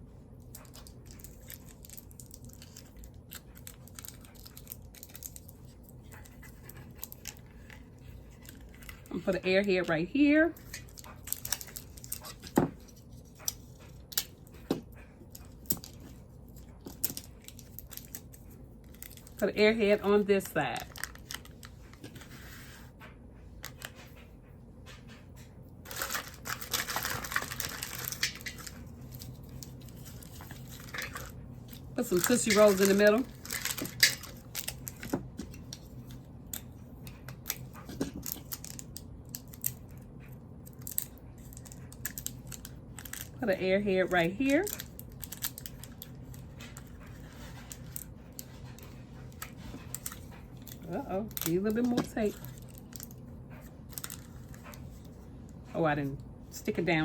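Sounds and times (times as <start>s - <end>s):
candy wrappers crinkling: 0.5s - 9.9s, 10.5s - 14.4s, 15.4s - 22.1s, 25.9s - 40.0s, 40.6s - 55.2s.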